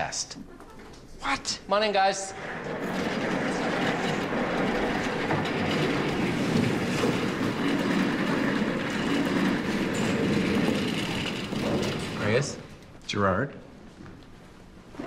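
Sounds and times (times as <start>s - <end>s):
people moving about desks and chairs: 0.4s - 13.2s, 13.8s - 15.0s.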